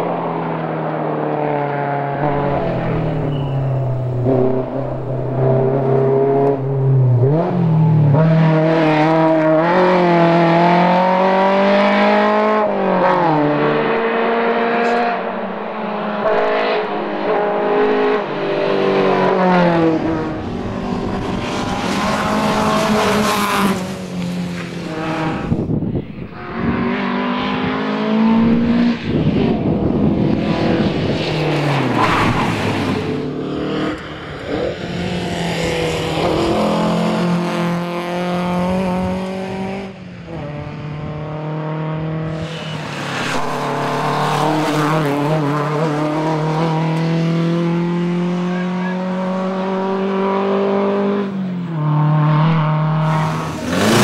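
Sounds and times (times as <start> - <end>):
car engine revving past: 0.0 - 25.7, 26.3 - 54.0.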